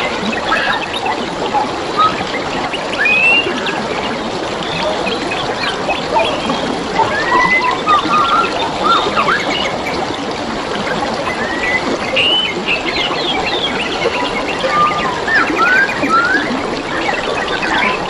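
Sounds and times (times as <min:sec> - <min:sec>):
songbirds chirping: 0:00.0 - 0:18.0
stream trickling: 0:00.0 - 0:18.0.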